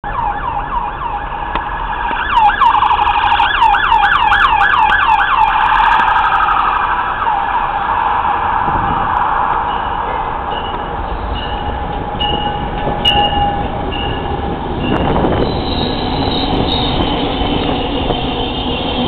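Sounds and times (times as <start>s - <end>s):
emergency siren yelping: 0.0s - 19.0s.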